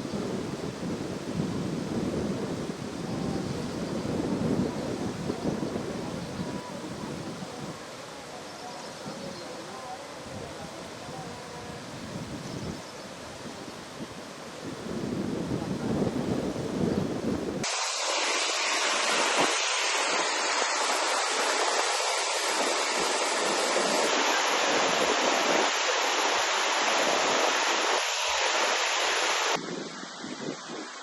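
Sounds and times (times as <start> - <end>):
wind rumbling on microphone: 0.0 - 8.0, 9.0 - 31.0
rushing water: 0.0 - 31.0.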